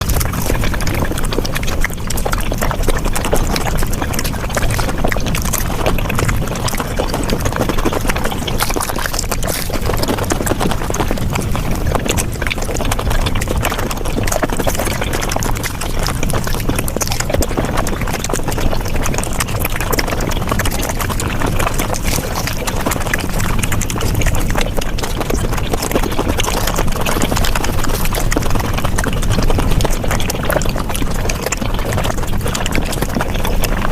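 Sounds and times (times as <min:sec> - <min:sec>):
close chewing and mouth sounds: 0:00.0 - 0:33.9.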